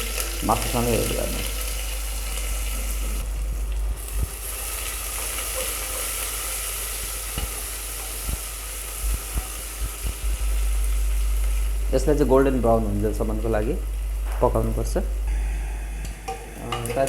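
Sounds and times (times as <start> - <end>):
onions sizzling in hot oil: 0.0 - 15.4.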